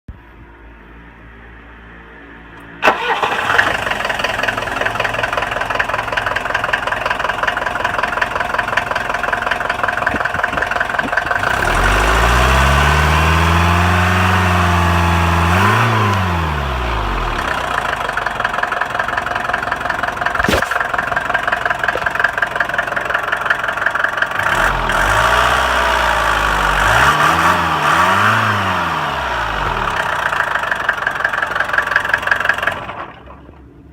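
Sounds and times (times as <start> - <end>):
diesel engine revving: 2.6 - 33.3.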